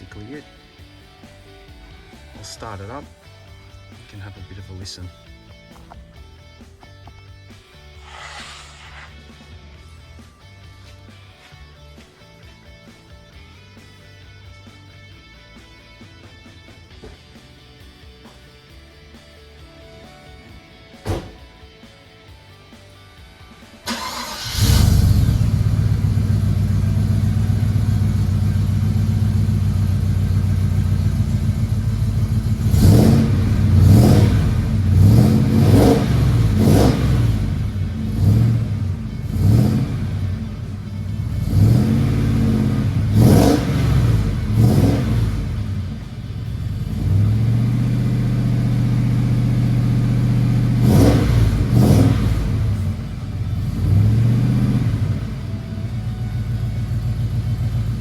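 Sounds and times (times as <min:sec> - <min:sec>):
car engine idling and revving: 0:00.0 - 0:14.9, 0:23.8 - 0:58.0.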